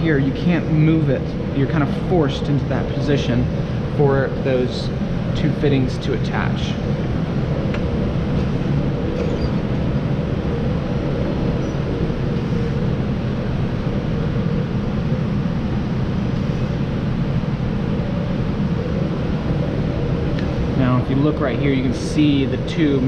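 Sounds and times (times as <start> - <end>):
fans humming: 0.0 - 23.0.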